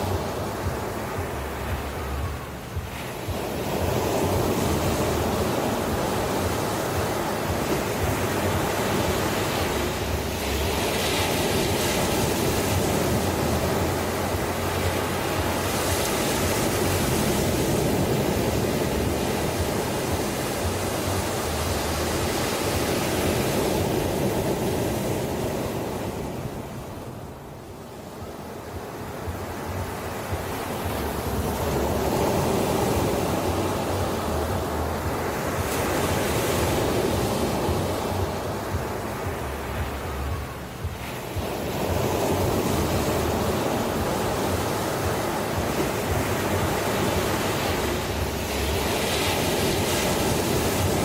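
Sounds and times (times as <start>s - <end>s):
ocean waves breaking: 0.0s - 51.0s.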